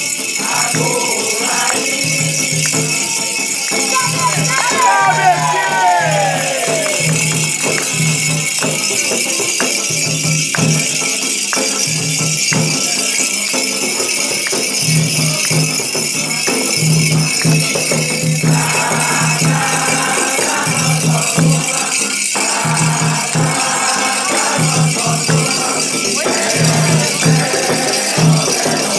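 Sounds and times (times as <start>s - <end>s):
rattles shaking: 0.0s - 28.9s
sharp percussion strikes: 0.0s - 28.9s.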